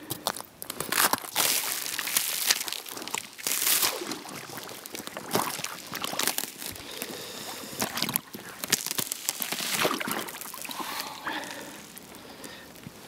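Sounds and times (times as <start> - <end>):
water splashing and trickling: 1.4 - 12.9.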